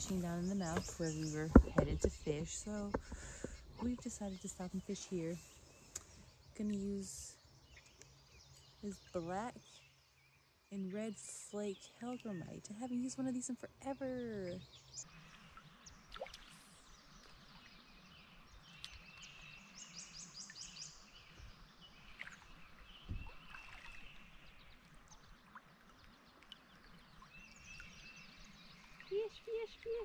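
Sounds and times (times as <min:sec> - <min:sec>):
flowing water: 0:00.0 - 0:07.3, 0:10.9 - 0:19.8, 0:20.4 - 0:30.0
small birds chirping: 0:00.0 - 0:30.0.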